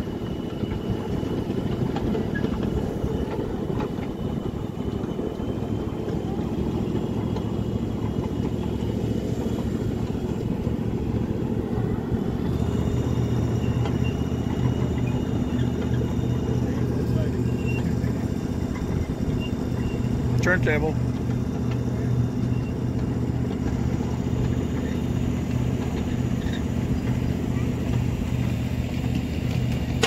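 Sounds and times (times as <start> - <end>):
deeper hum: 0.0 - 30.0
miniature train rumbling: 0.0 - 30.0
thin steady whine: 0.0 - 30.0.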